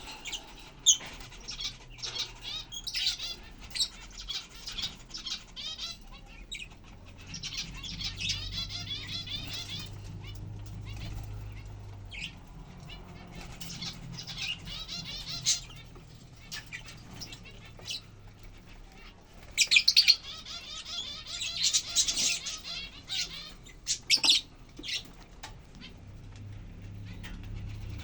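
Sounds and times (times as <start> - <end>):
birds chattering twitters: 0.0 - 28.0.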